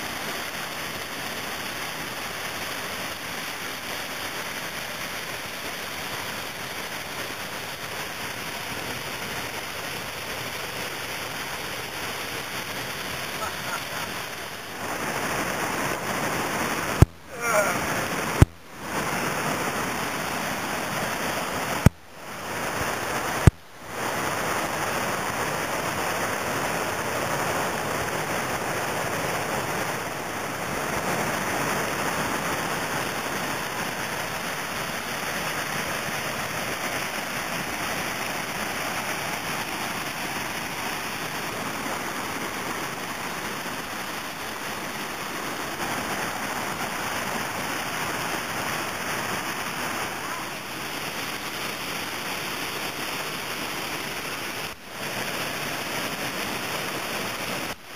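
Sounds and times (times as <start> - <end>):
whitewater rushing over ledge: 0.0 - 57.9.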